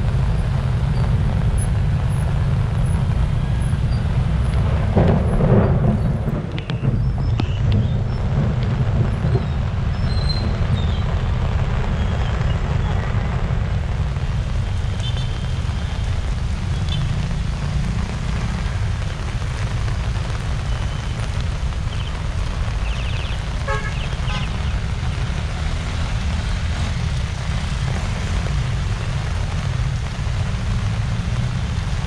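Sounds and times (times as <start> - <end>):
heavy rain pouring on road: 0.0 - 32.0.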